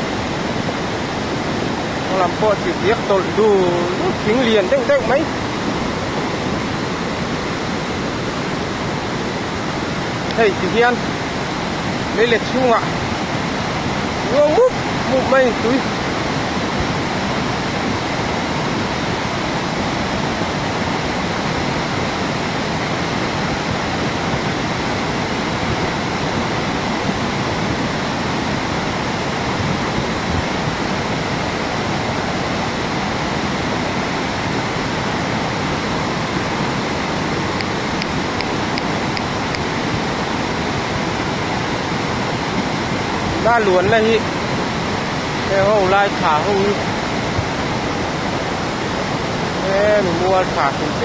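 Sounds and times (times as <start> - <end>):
fast river rushing: 0.0 - 51.0.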